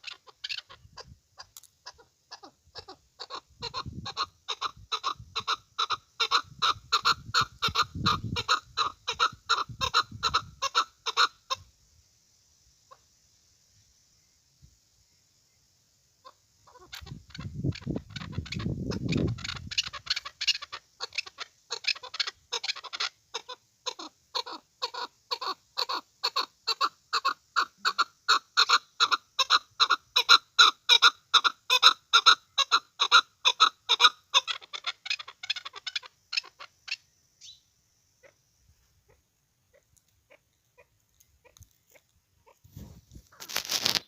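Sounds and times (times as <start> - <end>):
partridge rapid clucking calls: 0.0 - 11.7, 16.2 - 37.6, 38.2 - 38.4, 39.0 - 44.0.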